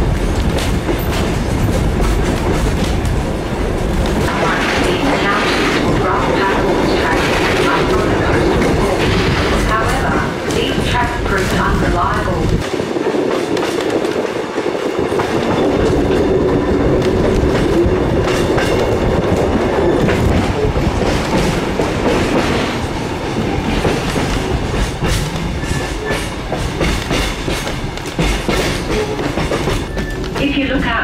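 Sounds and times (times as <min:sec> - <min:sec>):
train wheel clicks: 0:00.0 - 0:30.8
train wheels rumbling on rails: 0:00.0 - 0:31.0.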